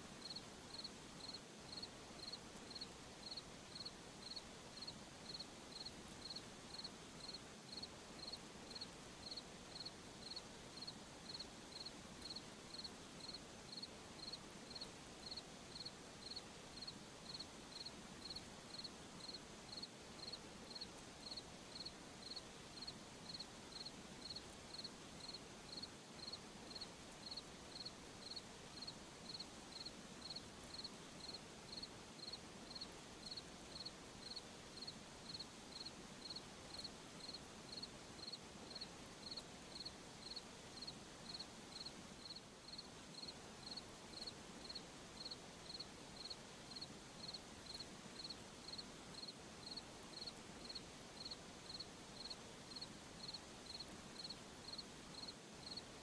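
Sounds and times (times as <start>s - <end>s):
soft insect hiss: 0.0s - 56.0s
crickets chirping: 0.2s - 55.8s.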